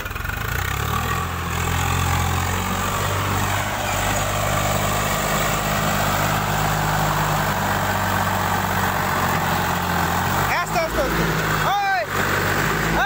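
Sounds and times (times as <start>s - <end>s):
tractor diesel engine labouring: 0.0s - 13.0s.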